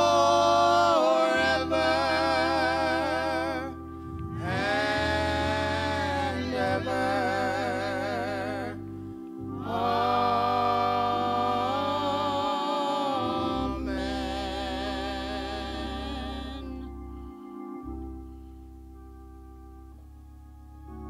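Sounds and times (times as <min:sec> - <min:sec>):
gospel singers with vibrato: 0:00.0 - 0:18.3
low accompanying tones: 0:00.0 - 0:21.0.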